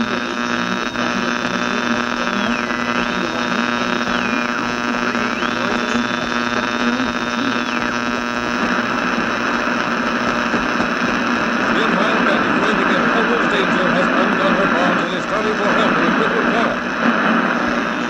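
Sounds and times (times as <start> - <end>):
electrical hum and buzz: 0.0 - 18.0
old recording noise: 0.0 - 18.0.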